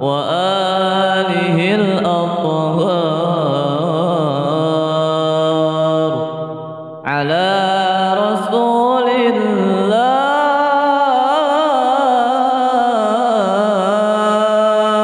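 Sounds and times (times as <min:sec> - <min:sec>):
young man chanting melismatically: 0:00.0 - 0:15.0.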